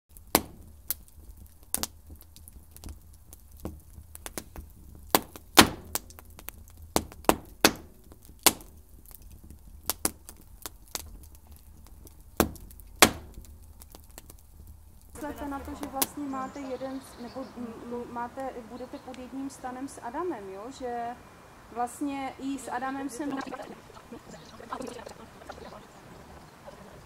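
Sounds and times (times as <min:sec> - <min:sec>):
low steady hum: 0:00.1 - 0:27.0.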